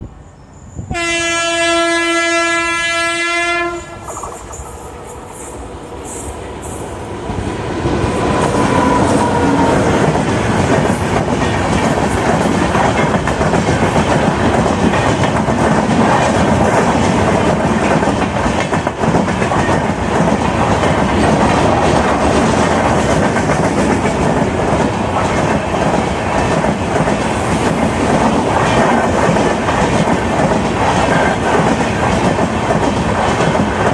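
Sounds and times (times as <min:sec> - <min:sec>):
train passing rumble: 0:00.0 - 0:33.9.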